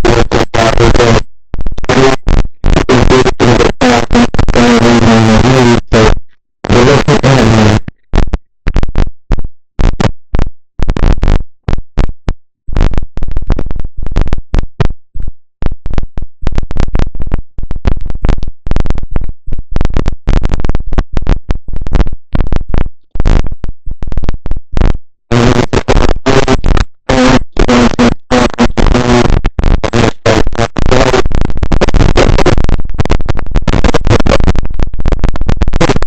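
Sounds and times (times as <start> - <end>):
crackling microphone static: 0.0 - 36.0.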